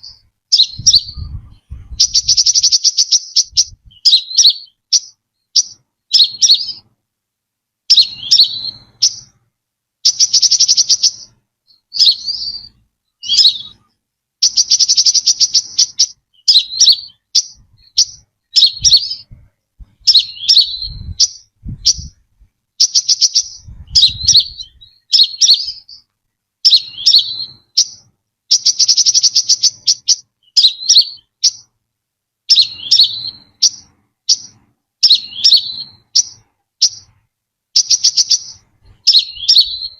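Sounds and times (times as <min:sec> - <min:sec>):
bird trilling: 0:00.0 - 0:06.8, 0:07.9 - 0:09.4, 0:10.0 - 0:22.2, 0:22.8 - 0:31.7, 0:32.5 - 0:37.2, 0:37.8 - 0:39.9
bird chirping: 0:00.0 - 0:07.0, 0:07.8 - 0:31.8, 0:32.4 - 0:39.9.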